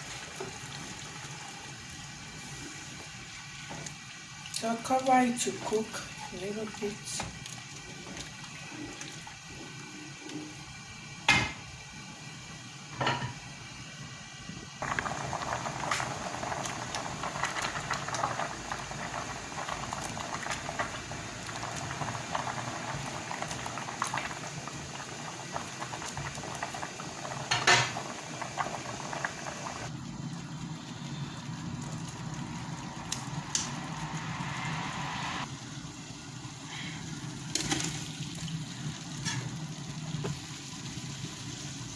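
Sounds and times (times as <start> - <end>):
pot boiling: 0.0 - 41.9.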